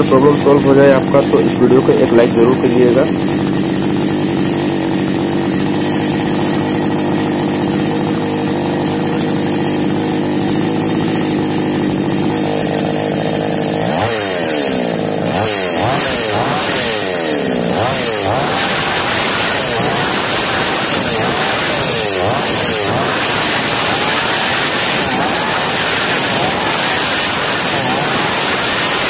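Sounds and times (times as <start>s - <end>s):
chainsaw engine idling and revving: 0.0s - 29.0s.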